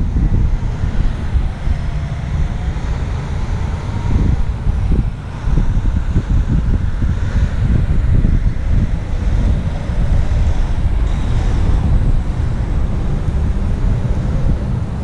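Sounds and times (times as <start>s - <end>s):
distant road traffic: 0.0s - 15.0s
wind buffeting microphone: 0.0s - 15.0s.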